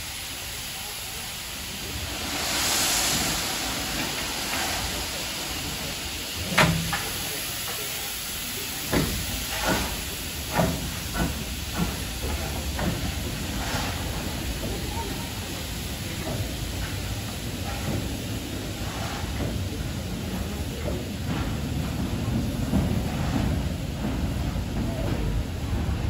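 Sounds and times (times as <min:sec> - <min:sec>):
steam locomotive hissing: 0:00.0 - 0:26.0
locomotive exhaust chuffs: 0:03.1 - 0:26.0.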